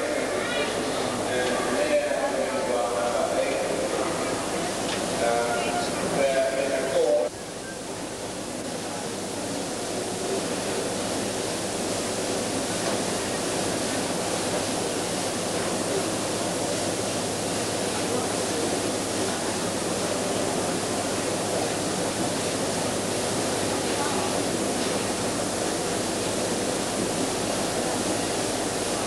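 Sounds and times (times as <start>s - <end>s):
crowd hubbub in arena: 0.0s - 29.0s.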